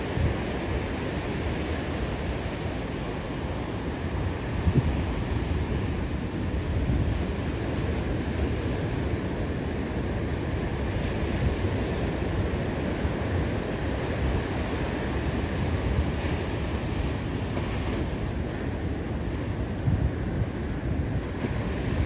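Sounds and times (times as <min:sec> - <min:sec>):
waves breaking: 0:00.0 - 0:22.0
wind buffeting microphone: 0:00.0 - 0:22.0.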